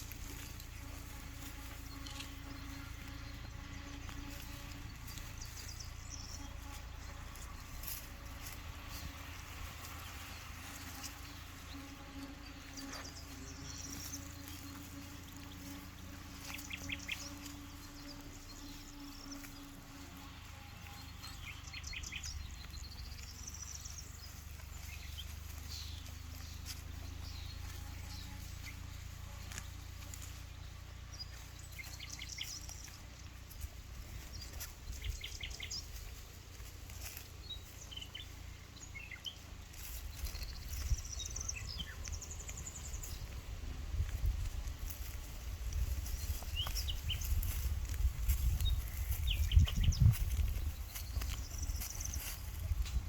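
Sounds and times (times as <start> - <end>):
steady low rumble: 0.0 - 53.0
birds chirping and whistling: 4.7 - 9.1, 10.1 - 19.7, 20.9 - 43.4, 45.8 - 53.0.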